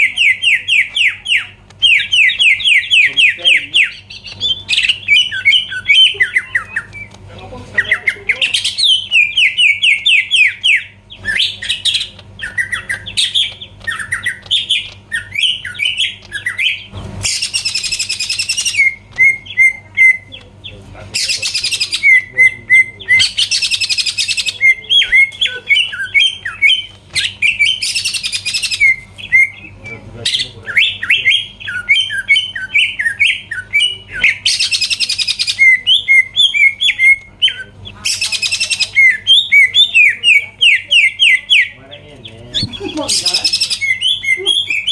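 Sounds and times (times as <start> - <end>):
bird whistling song: 0.0 - 7.2, 7.8 - 41.8, 42.5 - 44.9.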